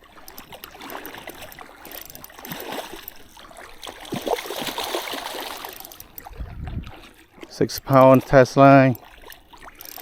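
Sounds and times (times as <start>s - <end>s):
stream water running: 0.0s - 10.0s
water splashing: 0.0s - 10.0s.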